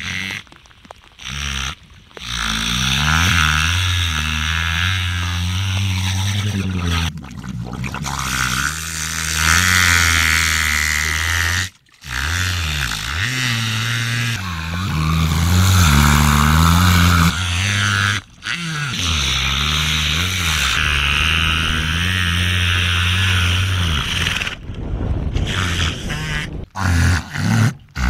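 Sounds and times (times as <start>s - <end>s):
killer whale engine-like drone: 1.2s - 24.7s.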